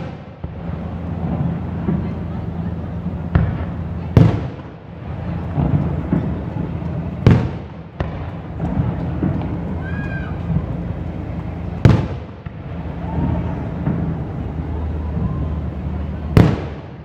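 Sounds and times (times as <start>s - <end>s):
fireworks booming: 0.0s - 17.0s
low rumble: 0.0s - 17.0s.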